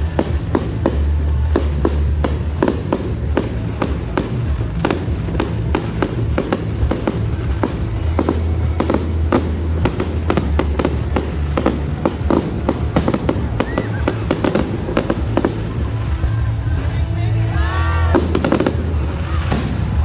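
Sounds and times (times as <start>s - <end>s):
firework whistle: 0.0s - 16.7s
fireworks bangs and crackles: 0.0s - 20.0s.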